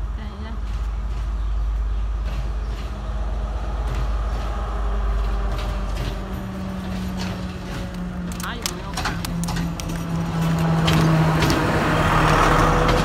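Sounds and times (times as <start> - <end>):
train engine and wheels rumbling: 0.0 - 13.0.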